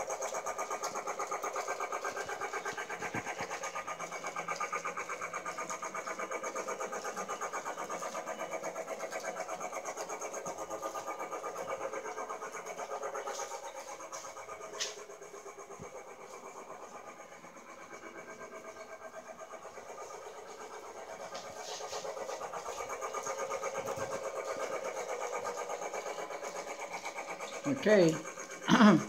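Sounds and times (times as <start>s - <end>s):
toy train whirring on track: 0.0s - 29.0s.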